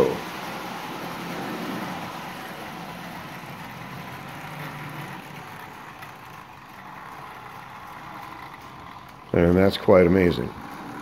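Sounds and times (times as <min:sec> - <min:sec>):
toy train motor humming: 0:00.0 - 0:11.0
wheels rolling on rails: 0:00.0 - 0:11.0.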